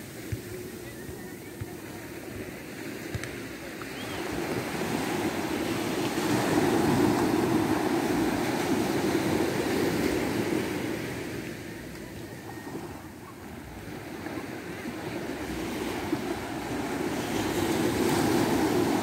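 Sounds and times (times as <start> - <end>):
waves washing up a beach: 0.0 - 19.0.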